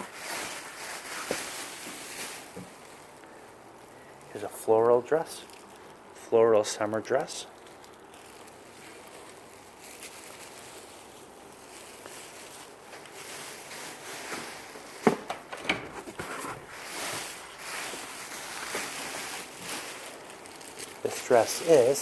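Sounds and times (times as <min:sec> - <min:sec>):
plastic garment bags crinkling: 0:00.0 - 0:22.0.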